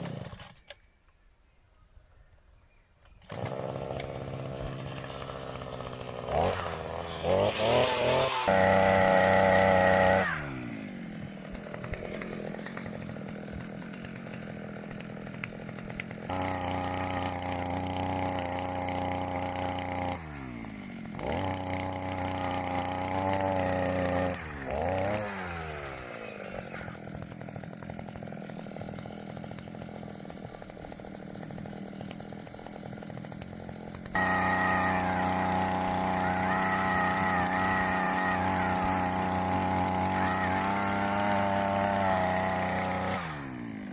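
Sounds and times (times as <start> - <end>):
chainsaw engine revving: 0.0 - 0.8, 3.2 - 43.9.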